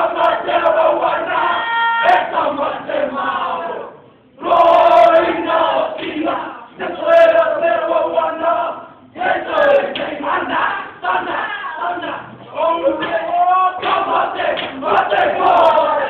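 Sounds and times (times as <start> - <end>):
men chanting in unison: 0.0 - 16.0.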